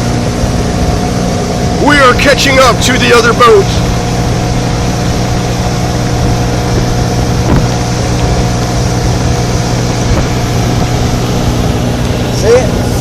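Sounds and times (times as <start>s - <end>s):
motorboat engine humming: 0.0s - 13.0s
rushing water noise: 0.0s - 13.0s.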